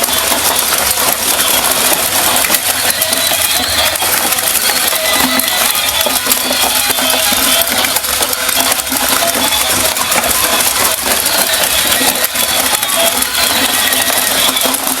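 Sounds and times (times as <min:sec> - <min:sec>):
plastic parts rattling: 0:00.0 - 0:15.0
toy motor and gears whirring: 0:00.0 - 0:15.0.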